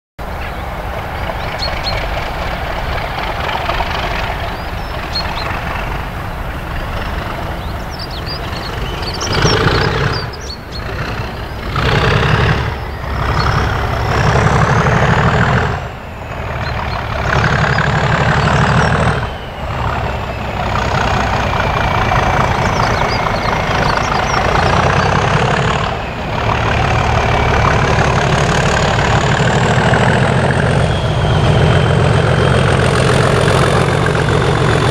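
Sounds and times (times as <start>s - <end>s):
locomotive diesel engine rumbling: 0.2s - 34.9s.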